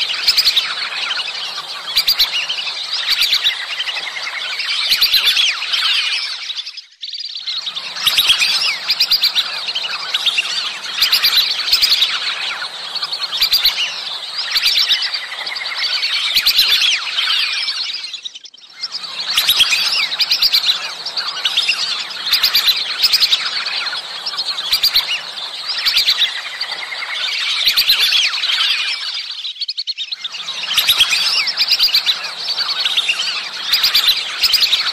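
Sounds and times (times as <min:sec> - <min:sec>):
ducks whistling: 0:00.0 - 0:06.8, 0:07.4 - 0:29.4, 0:30.2 - 0:34.9.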